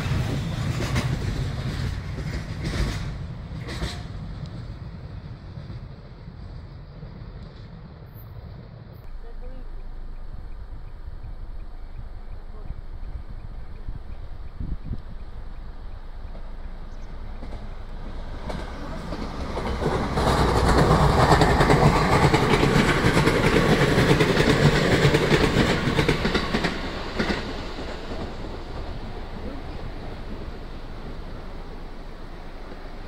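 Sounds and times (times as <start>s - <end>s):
electric train passing: 0.0s - 33.0s.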